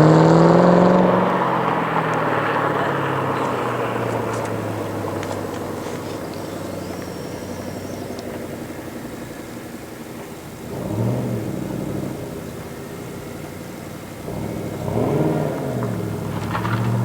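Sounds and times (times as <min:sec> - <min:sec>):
car exhaust note while driving: 0:00.0 - 0:17.0.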